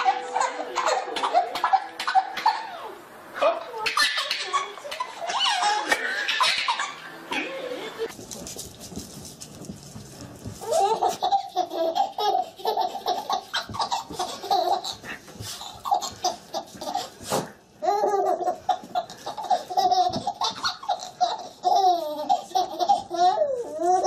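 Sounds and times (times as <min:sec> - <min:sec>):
baby giggling: 0:00.0 - 0:03.0, 0:03.8 - 0:08.1, 0:10.6 - 0:17.2, 0:17.8 - 0:24.0.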